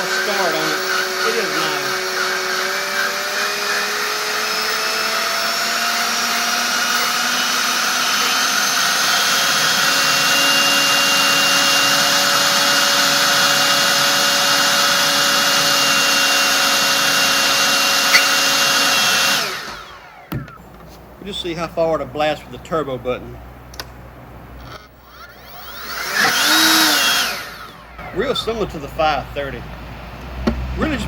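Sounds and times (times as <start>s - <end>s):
leaf blower fan whine: 0.0s - 23.0s, 24.5s - 31.0s.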